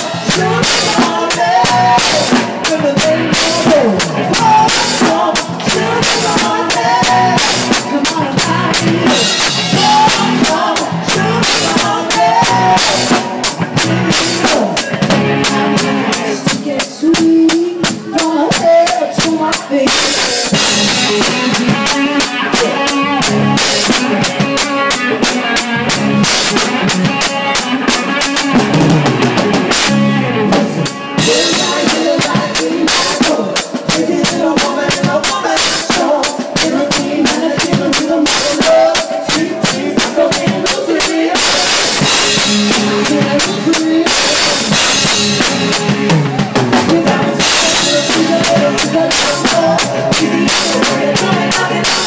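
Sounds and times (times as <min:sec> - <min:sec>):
bass drum: 0:00.0 - 0:52.0
live band music: 0:00.0 - 0:52.0.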